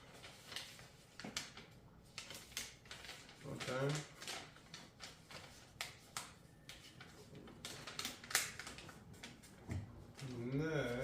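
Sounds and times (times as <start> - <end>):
paper crackling and rustling: 0.0 - 11.0.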